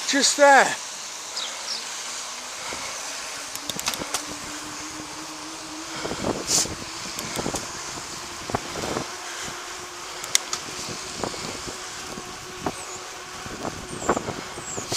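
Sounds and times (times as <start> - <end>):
road traffic: 0.0 - 14.9
steady rushing noise: 0.0 - 14.9
car engine running: 1.7 - 14.9.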